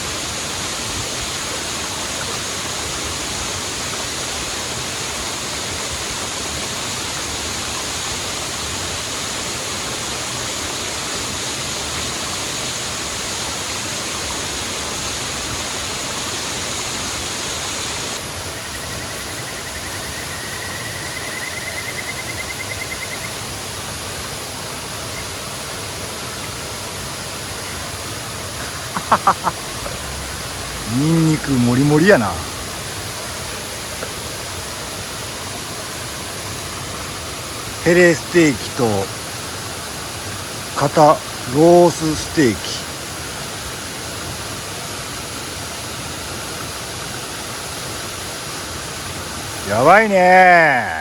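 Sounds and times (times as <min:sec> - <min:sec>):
waterfall roaring: 0:00.0 - 0:21.6, 0:22.2 - 0:51.0.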